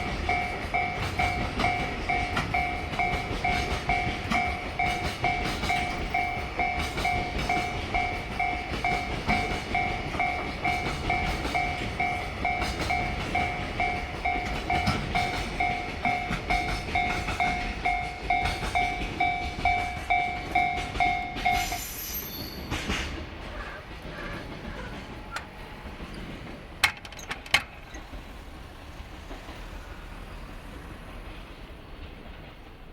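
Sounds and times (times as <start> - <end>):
two-tone crossing warning bell: 0.0 - 28.4
train wheels clattering over rail joints: 0.0 - 32.9.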